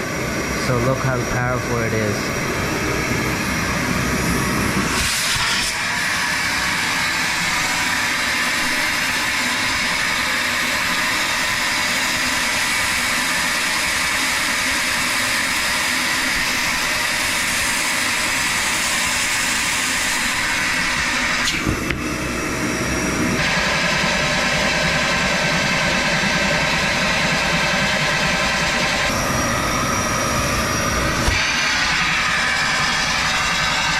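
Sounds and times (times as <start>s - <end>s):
shop vacuum running: 0.0s - 33.9s.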